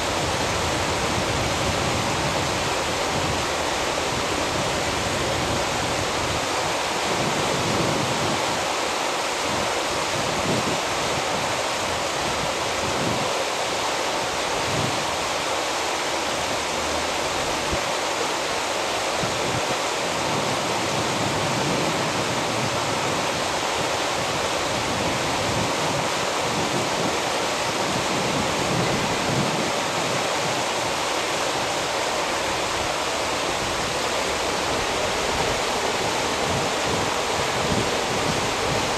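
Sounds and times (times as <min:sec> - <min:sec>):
surf water rushing: 0:00.0 - 0:38.9.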